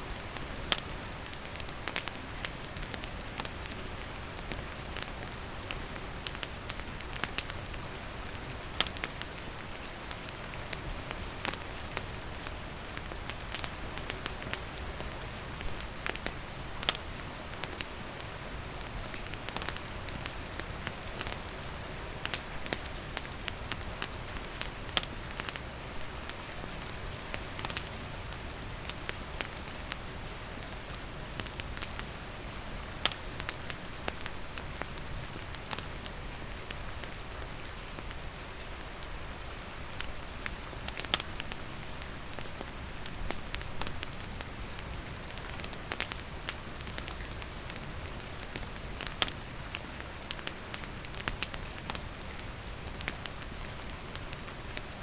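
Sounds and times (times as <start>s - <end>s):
campfire crackling: 0.0s - 55.0s
steady rain falling: 0.0s - 55.0s.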